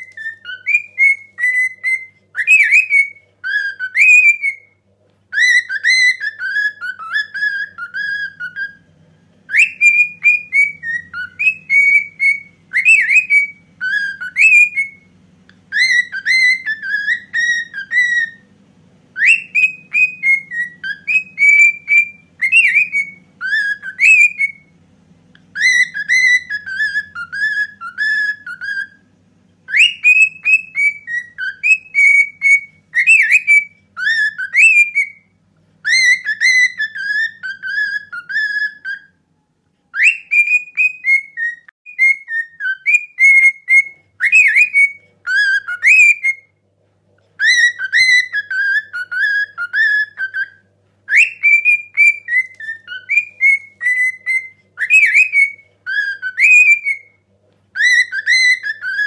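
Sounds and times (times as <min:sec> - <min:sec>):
cockatiel whistling a melody: 0:00.0 - 0:46.6, 0:47.3 - 0:59.0.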